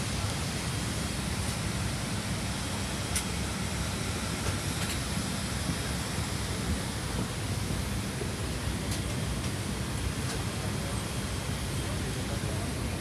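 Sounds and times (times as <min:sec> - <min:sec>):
airliner cabin noise: 0:00.1 - 0:13.0.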